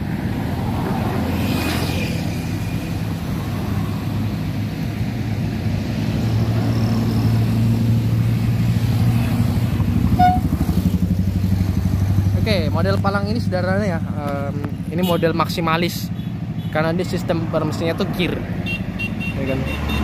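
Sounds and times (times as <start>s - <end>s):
traffic driving past: 0.0s - 20.0s.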